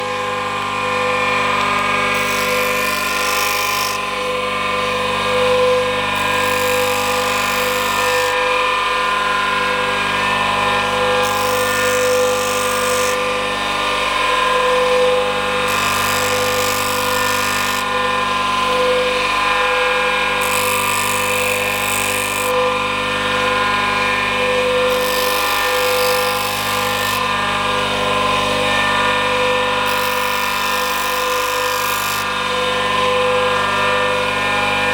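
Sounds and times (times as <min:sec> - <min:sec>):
grinder motor hum: 0:00.0 - 0:34.9.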